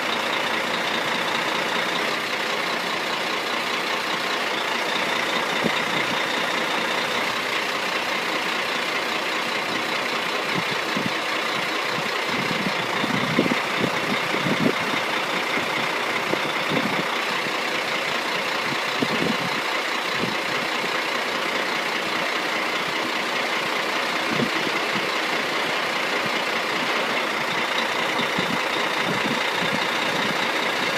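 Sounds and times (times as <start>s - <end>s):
truck engine running: 0.0s - 30.9s.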